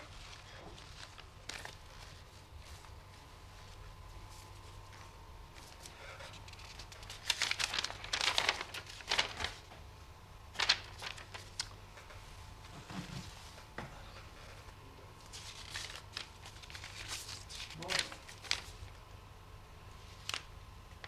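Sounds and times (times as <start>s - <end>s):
paper rustling and crinkling: 0.0s - 9.9s, 10.5s - 19.1s, 19.9s - 21.0s
steady low hum: 0.0s - 21.0s.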